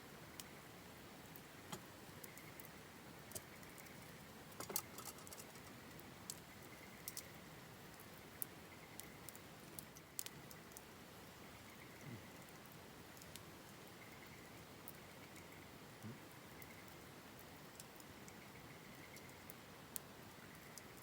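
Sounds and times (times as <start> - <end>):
faint steady hiss: 0.0 - 21.0
campfire wood crackling: 0.1 - 21.0.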